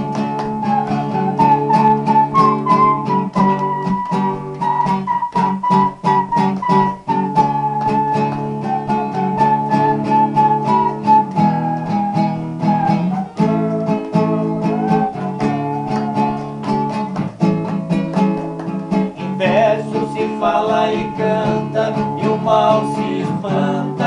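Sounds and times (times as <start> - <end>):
held lead melody: 0.0 - 24.0
plucked guitar strings: 0.0 - 24.0.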